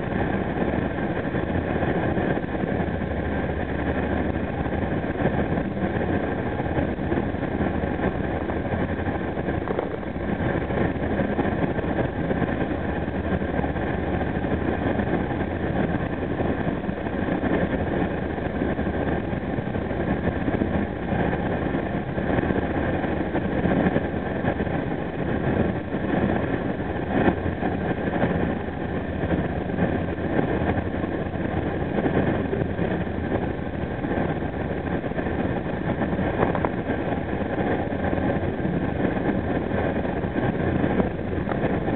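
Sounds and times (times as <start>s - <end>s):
train running at speed: 0.0s - 41.9s.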